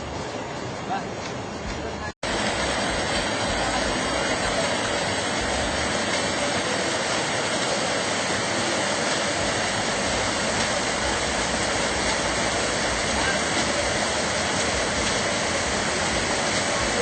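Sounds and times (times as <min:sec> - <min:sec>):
rushing water: 0:02.2 - 0:17.0.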